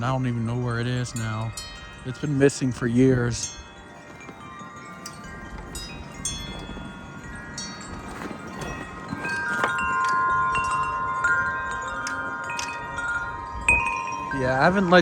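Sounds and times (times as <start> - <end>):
wind chime ringing: 0.0 - 15.0
wind rumble: 0.0 - 15.0.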